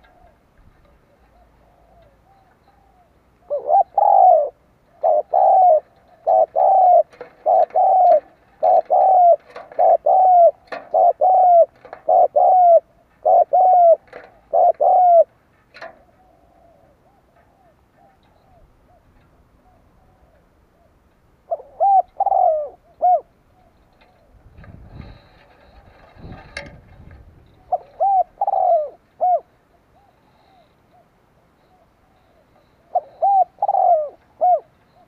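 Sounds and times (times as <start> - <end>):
dove cooing: 0.0 - 35.0.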